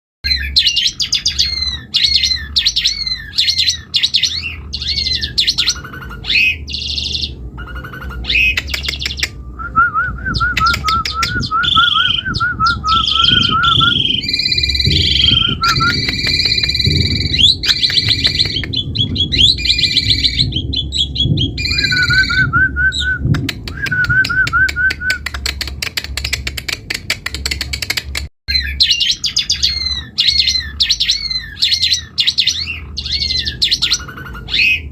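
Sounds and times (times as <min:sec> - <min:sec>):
starling singing: 0:00.2 - 0:27.8, 0:28.5 - 0:34.9.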